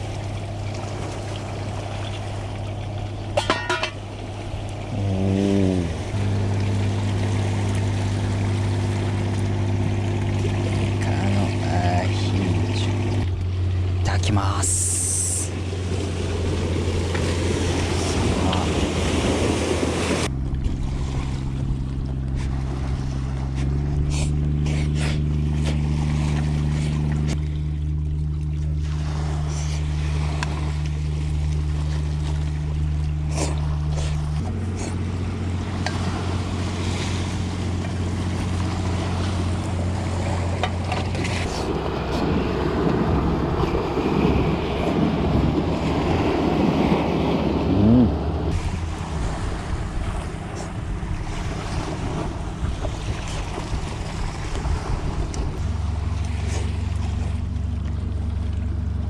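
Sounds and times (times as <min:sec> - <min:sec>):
boat engine humming: 0:00.0 - 0:59.0
surf: 0:00.0 - 0:59.0
wind: 0:00.0 - 0:59.0.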